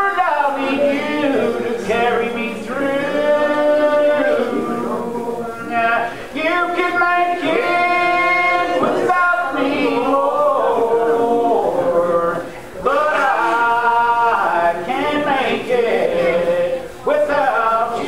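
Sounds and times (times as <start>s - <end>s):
unaccompanied hymn singing: 0.0s - 18.0s.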